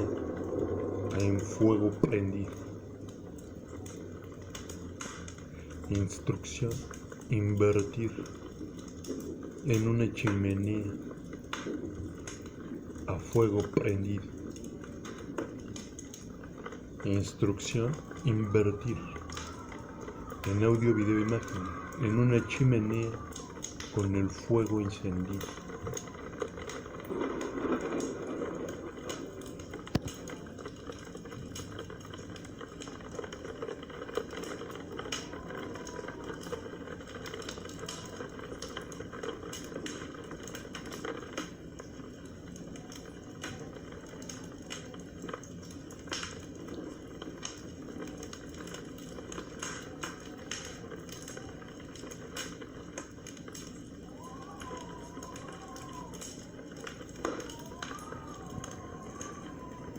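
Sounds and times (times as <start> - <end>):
fire hissing: 0.0 - 59.9
wood fire crackling and popping: 0.0 - 59.9.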